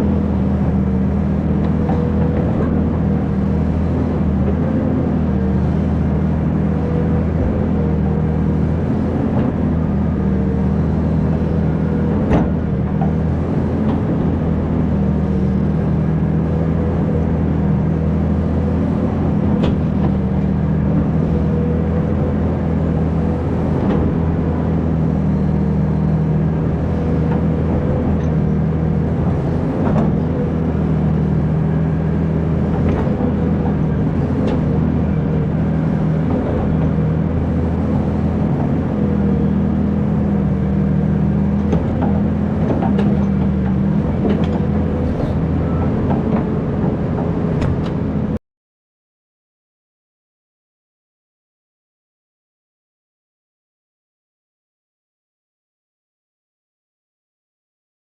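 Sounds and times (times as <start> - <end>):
excavator diesel engine running: 0.0 - 48.4.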